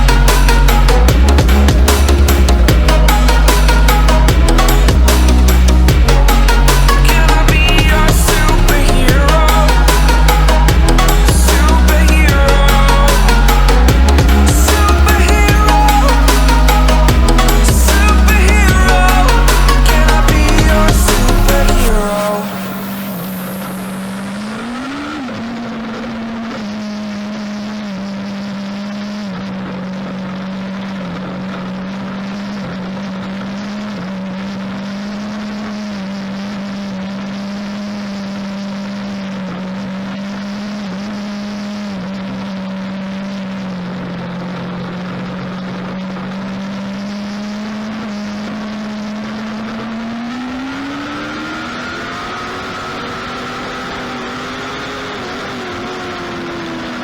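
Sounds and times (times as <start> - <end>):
race car engine high revs: 0.0 - 57.0.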